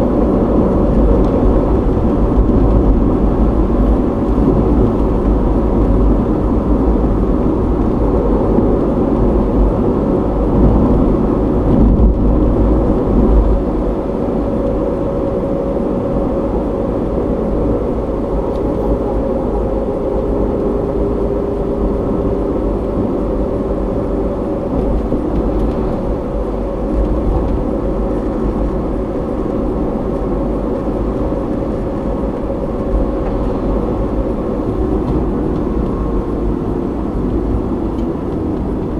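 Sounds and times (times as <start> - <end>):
muffled tyre and engine rumble: 0.0 - 38.9.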